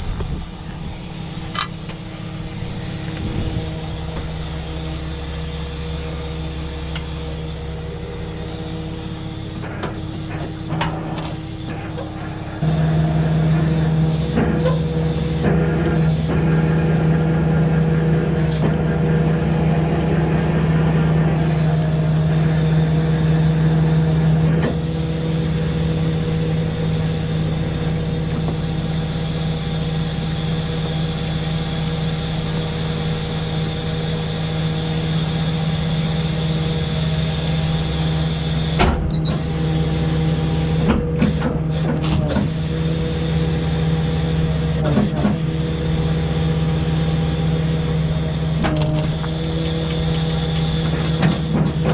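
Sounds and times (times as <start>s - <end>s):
tow truck engine running: 0.0s - 51.9s.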